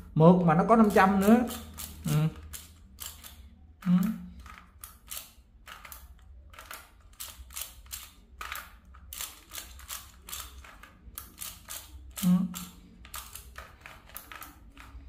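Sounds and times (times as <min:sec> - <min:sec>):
plastic puzzle layers clicking: 0:00.6 - 0:15.0.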